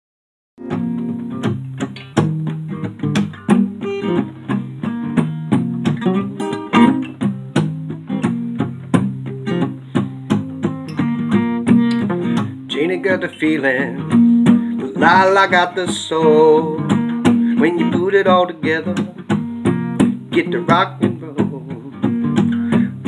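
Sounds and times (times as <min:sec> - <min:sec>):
acoustic guitar strumming: 0:00.6 - 0:23.0.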